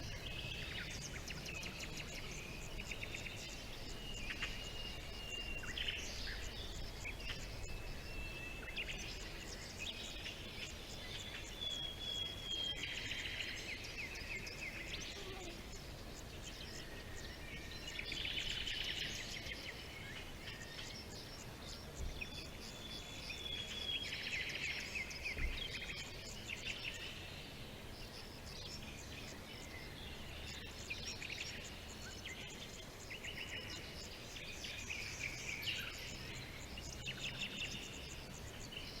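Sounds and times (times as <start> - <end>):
faint background noise: 0.0 - 39.0
songbirds singing: 0.0 - 39.0.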